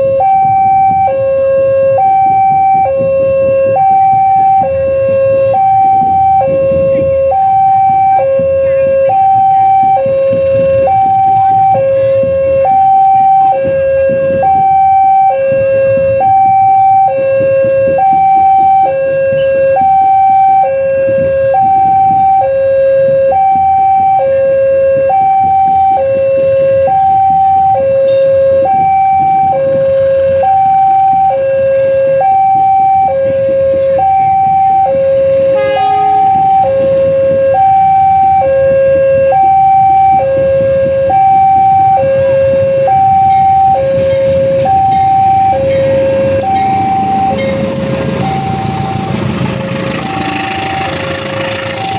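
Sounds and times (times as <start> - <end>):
level crossing alarm alternating tones: 0.0 - 49.6, 50.2 - 51.9.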